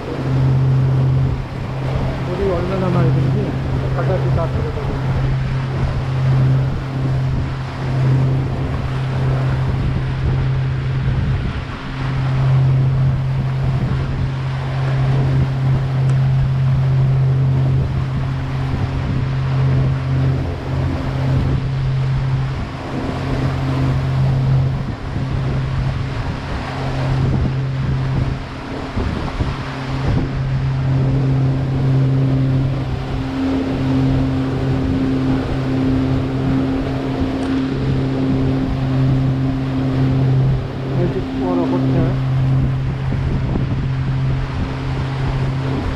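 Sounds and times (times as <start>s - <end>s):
boat engine humming: 0.0s - 45.9s
water rushing: 0.0s - 45.9s
wind: 0.0s - 45.9s.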